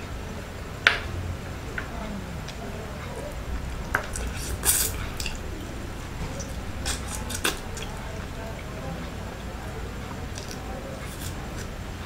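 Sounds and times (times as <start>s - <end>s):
wet eating and smacking: 2.1s - 11.9s.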